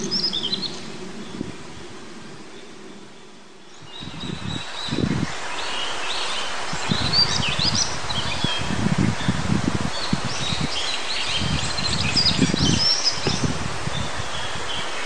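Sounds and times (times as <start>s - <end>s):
bird singing: 0.0s - 1.5s, 2.4s - 15.0s
stream water rushing: 0.0s - 15.0s
wind gusts on microphone: 0.0s - 15.0s.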